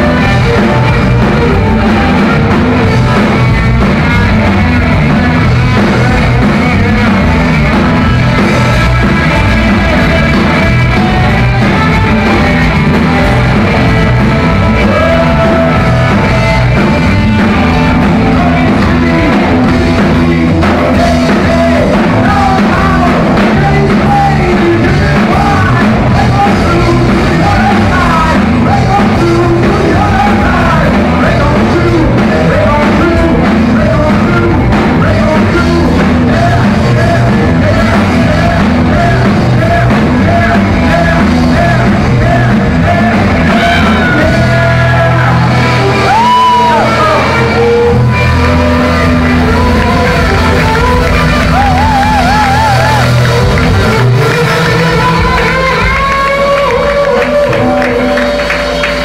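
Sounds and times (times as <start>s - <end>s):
man singing: 0.0s - 59.0s
rock band playing: 0.0s - 59.0s.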